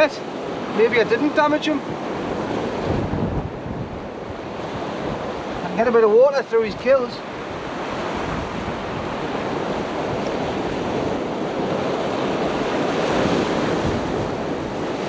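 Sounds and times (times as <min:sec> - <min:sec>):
wind on microphone: 0:00.0 - 0:05.9, 0:06.6 - 0:15.0
surf washing on shore: 0:00.0 - 0:15.0.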